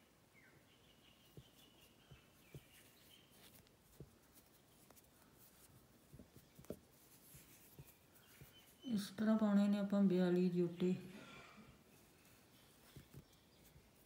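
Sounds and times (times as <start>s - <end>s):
knitting needle taps and rustles: 1.1s - 10.5s, 12.0s - 14.0s.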